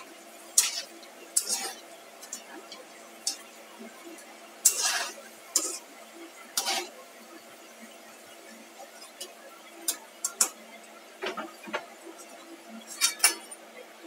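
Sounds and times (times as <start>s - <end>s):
metal spatula scraping a pan: 0.0s - 13.7s
oil sizzling: 0.0s - 14.0s.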